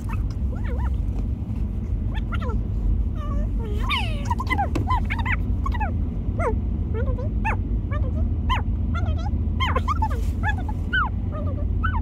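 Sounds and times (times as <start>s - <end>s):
low car rumble: 0.0s - 12.0s.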